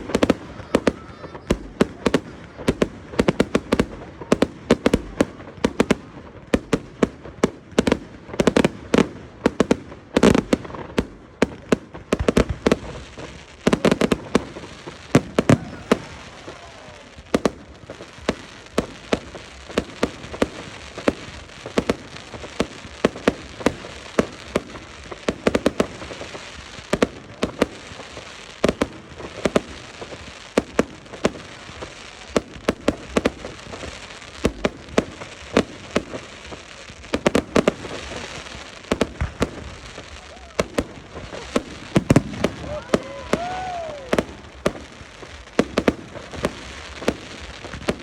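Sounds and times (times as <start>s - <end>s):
fireworks bangs: 0.0s - 48.0s
fireworks crackle: 0.0s - 48.0s.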